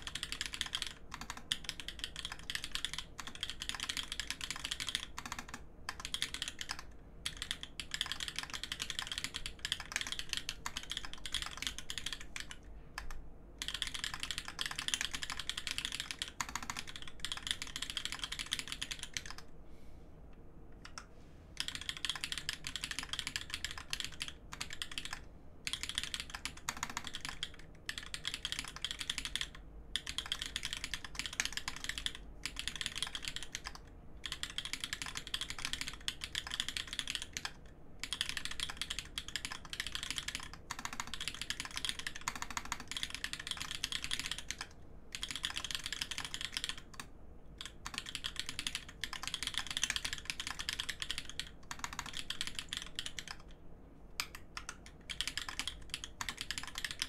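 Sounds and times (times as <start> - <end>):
typing on mechanical keyboard: 0.0 - 19.5, 20.8 - 53.6, 54.2 - 57.0.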